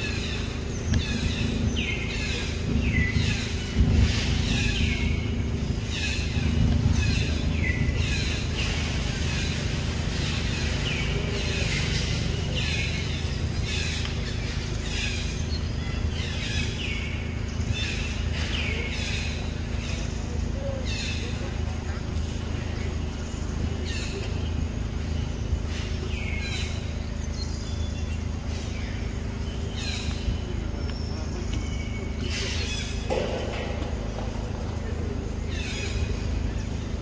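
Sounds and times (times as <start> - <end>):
bird chirping: 0.0 - 37.0
low steady rumble: 0.0 - 37.0.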